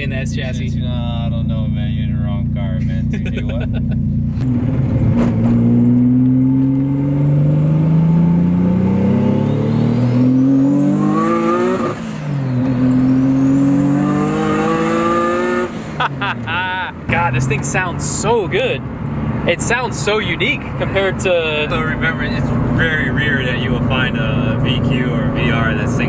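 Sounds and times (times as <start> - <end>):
car engine accelerating hard: 0.4 - 26.0
high whine rising with revs: 0.6 - 26.0.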